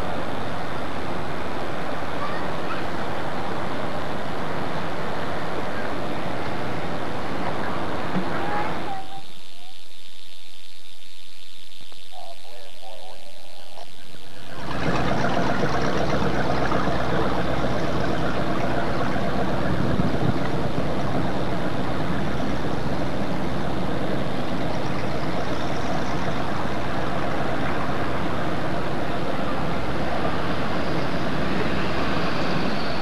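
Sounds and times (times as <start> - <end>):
engine running steadily: 0.0 - 9.6, 12.1 - 33.0.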